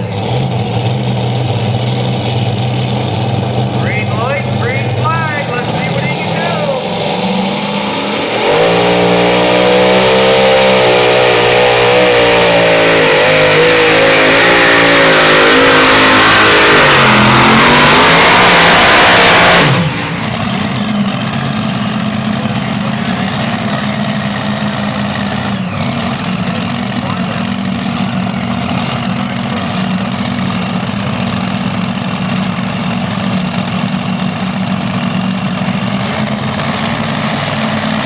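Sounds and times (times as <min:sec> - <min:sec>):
pulling tractor engines roaring: 0:00.0 - 0:38.0.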